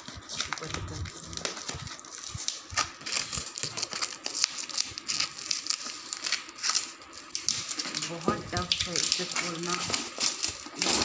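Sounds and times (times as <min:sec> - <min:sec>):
plastic wrapping crinkling and tearing: 0:00.0 - 0:11.0.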